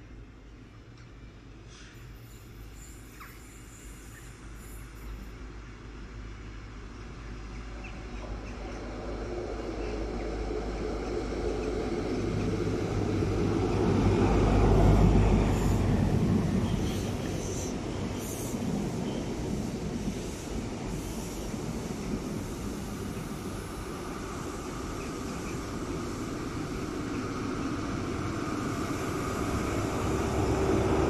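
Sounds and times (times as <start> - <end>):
diesel train passing: 0.0 - 31.0.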